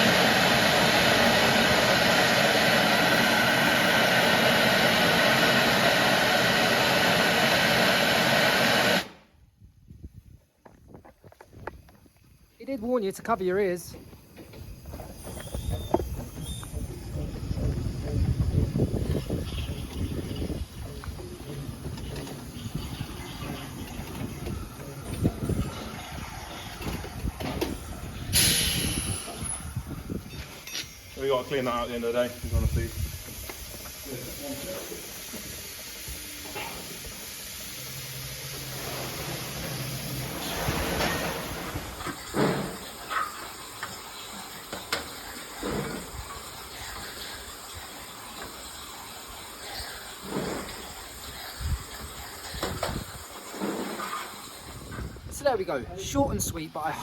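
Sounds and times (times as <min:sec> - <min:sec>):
steam venting hiss: 0:00.0 - 0:09.3, 0:11.6 - 0:57.0.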